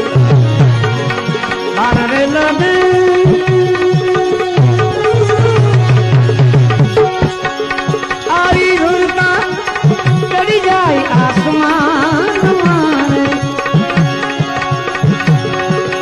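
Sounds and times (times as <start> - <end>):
hand drums rhythm: 0.0 - 16.0.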